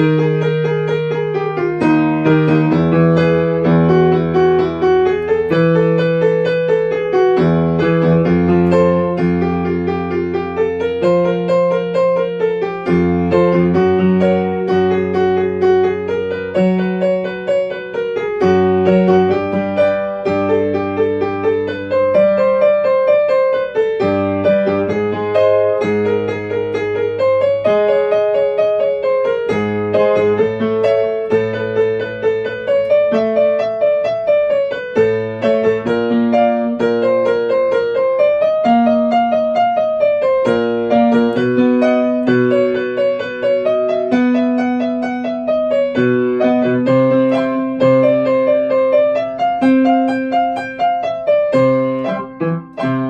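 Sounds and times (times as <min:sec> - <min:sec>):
solo piano: 0:00.0 - 0:53.0.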